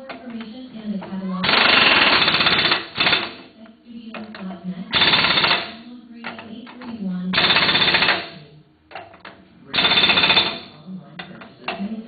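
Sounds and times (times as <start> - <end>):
low steady hum: 0.0 - 12.0
impact wrench hammering: 1.4 - 3.5, 4.2 - 11.8.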